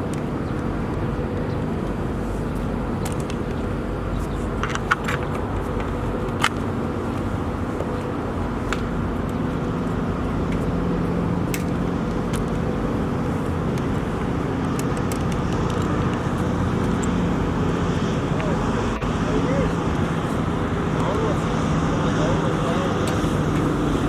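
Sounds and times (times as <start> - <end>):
steady engine hum: 0.0 - 24.0.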